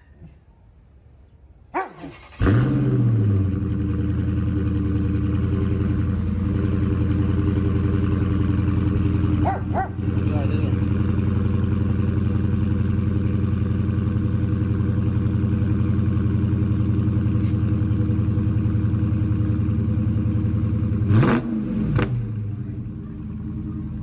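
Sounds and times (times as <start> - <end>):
car engine idling and revving: 1.9 - 24.0.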